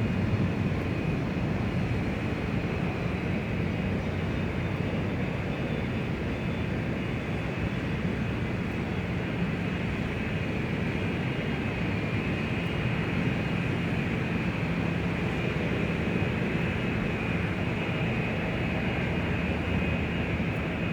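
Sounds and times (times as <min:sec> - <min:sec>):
aircraft engines rumbling: 0:00.0 - 0:20.9.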